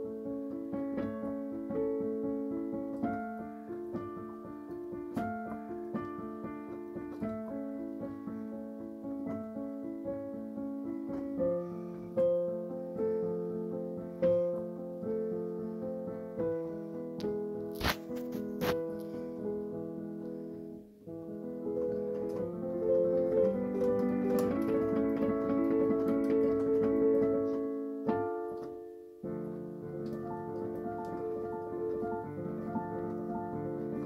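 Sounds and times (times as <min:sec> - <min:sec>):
gentle flowing piano: 0:00.0 - 0:34.0.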